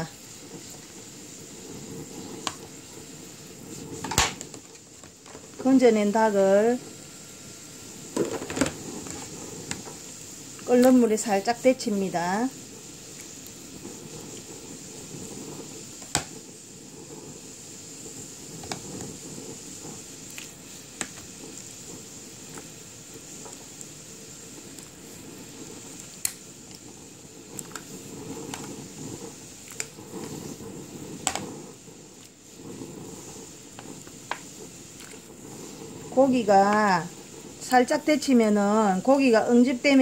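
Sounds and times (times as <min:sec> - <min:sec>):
water boiling and bubbling: 0:00.0 - 0:40.0.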